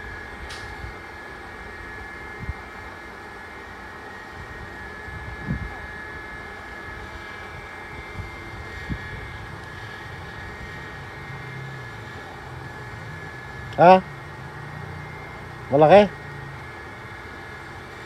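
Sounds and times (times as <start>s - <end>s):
machine drone with high whine: 0.0s - 18.0s.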